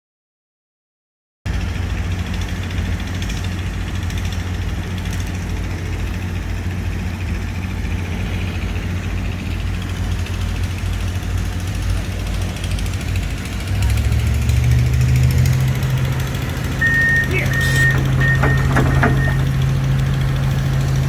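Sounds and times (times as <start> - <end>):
excavator diesel engine humming: 1.5 - 21.0.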